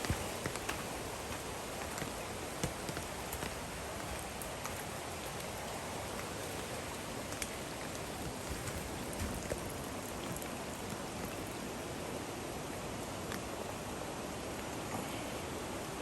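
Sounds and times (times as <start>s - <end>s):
raindrops ticking nearby: 0.0s - 13.7s
steady rain hiss: 0.0s - 16.0s.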